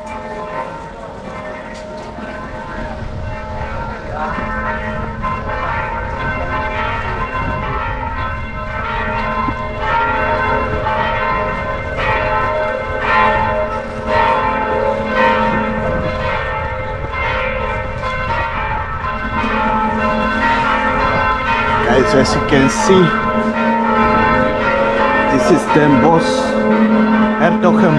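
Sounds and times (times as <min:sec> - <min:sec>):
church bells pealing: 0:00.0 - 0:27.9.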